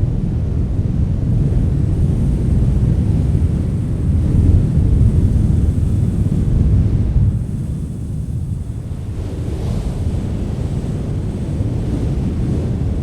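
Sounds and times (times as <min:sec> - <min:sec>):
strong wind gusts: 0:00.0 - 0:13.0.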